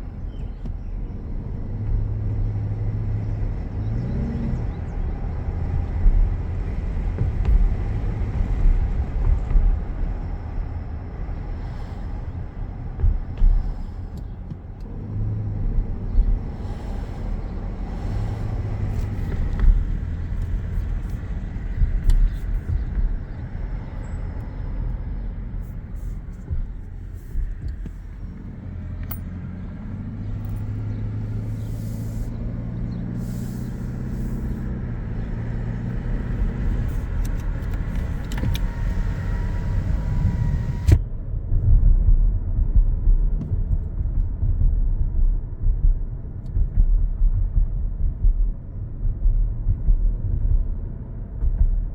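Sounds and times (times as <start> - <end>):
road rumble inside car cabin: 0.0 - 51.9.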